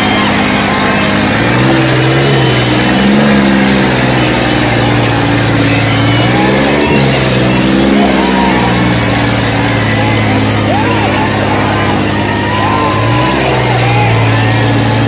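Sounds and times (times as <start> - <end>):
diesel tractor engines labouring: 0.0 - 15.0.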